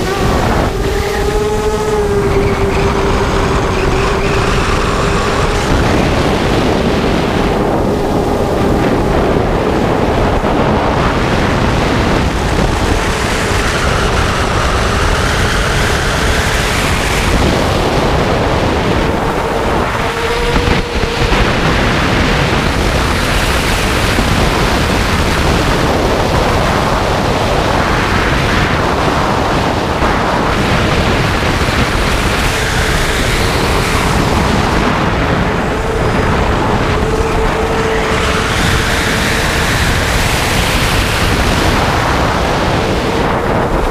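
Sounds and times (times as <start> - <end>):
drone motors whirring: 0.0 - 43.9
wind rushing over microphone: 0.0 - 43.9.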